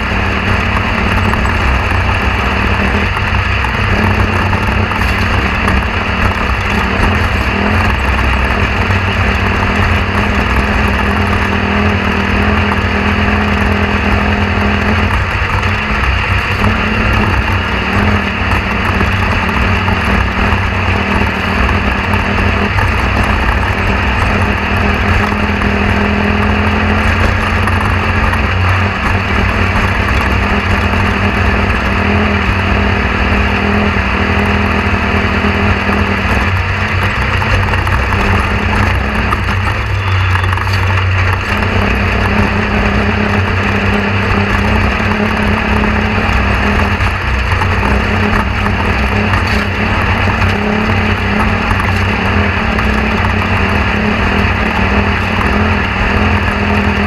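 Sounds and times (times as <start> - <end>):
loud mechanical drone: 0.0 - 57.0.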